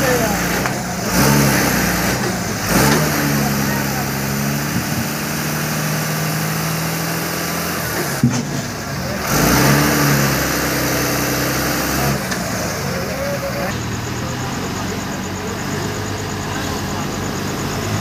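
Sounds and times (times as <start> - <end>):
diesel engine idling: 0.0 - 18.0
engine revving: 0.0 - 18.0.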